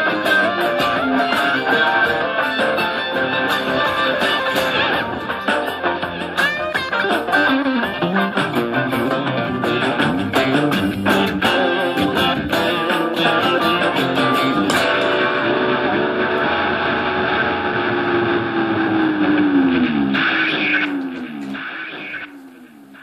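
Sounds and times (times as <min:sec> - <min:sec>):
electric guitar funk playing: 0:00.0 - 0:23.0.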